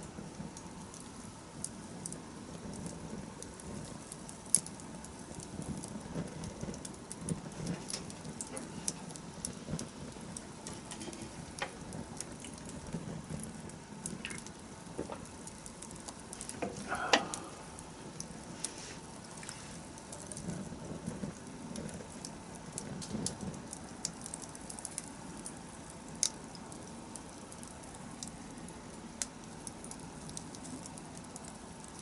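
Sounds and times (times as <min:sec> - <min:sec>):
campfire crackling: 0:00.0 - 0:32.0
fire hissing: 0:00.0 - 0:32.0.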